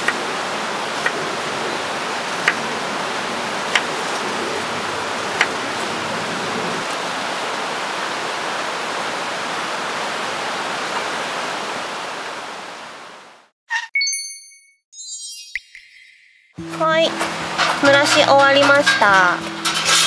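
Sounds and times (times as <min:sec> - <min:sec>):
stream water rushing: 0:00.0 - 0:13.5, 0:17.1 - 0:20.0.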